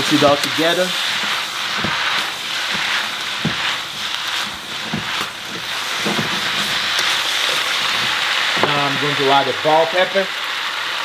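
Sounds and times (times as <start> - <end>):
utensil scraping and knocking pan: 0.0 - 9.3
vegetables sizzling in hot oil: 0.0 - 11.0.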